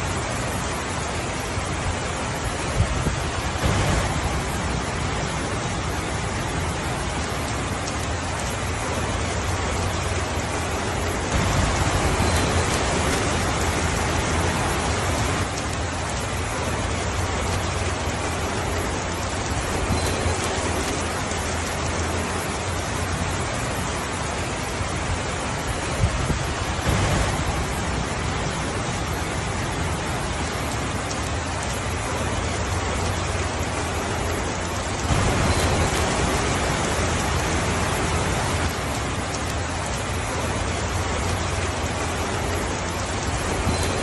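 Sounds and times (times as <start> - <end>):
rain on a roof: 0.0 - 44.0.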